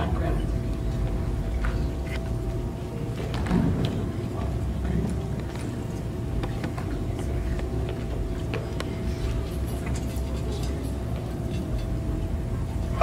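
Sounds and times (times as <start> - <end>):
faint steady hum: 0.0 - 13.0
low room rumble: 0.0 - 13.0.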